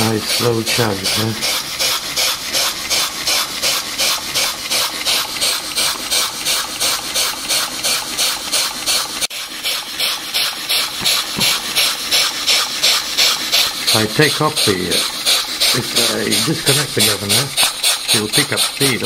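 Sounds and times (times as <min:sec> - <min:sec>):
steam engine exhaust chuffing: 0:00.0 - 0:19.0.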